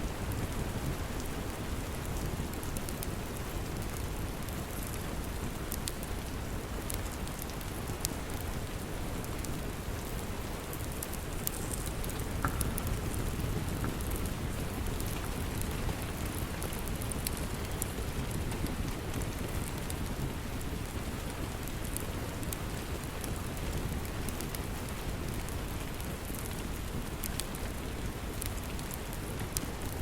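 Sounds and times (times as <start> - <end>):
steady rain: 0.0 - 30.0
wood fire crackles: 0.0 - 30.0.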